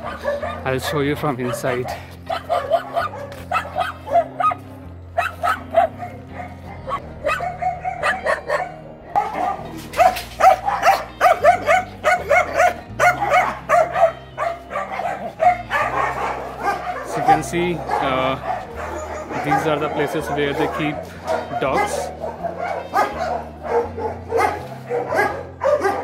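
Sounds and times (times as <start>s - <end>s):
dogs barking: 0.0s - 26.0s.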